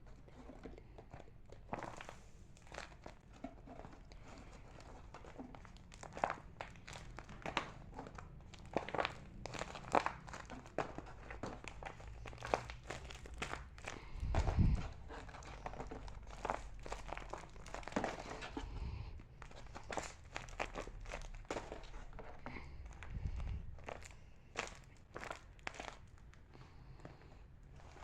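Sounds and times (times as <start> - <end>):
plastic crinkling: 0.0 - 28.0
sharp plastic crackles: 0.0 - 28.0.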